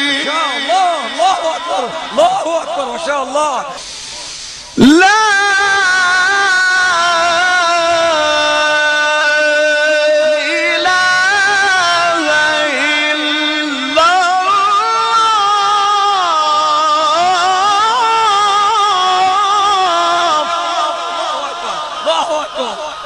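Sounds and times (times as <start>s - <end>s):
person reciting melodically: 0.0s - 3.9s, 4.8s - 23.0s.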